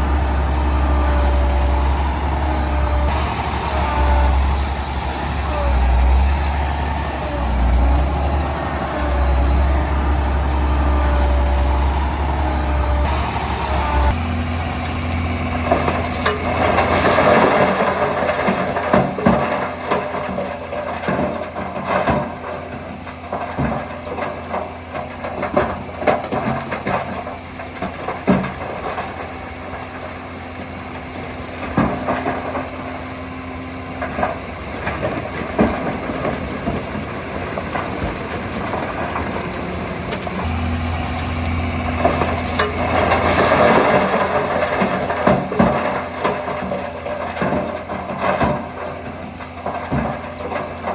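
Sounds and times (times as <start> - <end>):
knocks and clanks: 0.0 - 30.2, 31.5 - 33.0, 33.9 - 50.9
heavy diesel engine running: 0.0 - 50.9.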